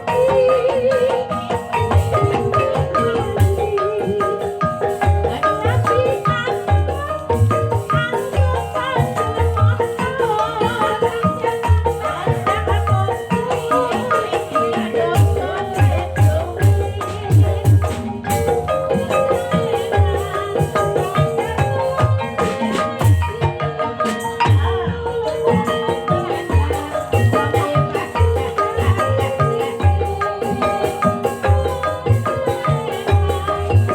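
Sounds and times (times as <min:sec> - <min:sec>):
mallet-struck keyed instruments: 0:00.0 - 0:33.9.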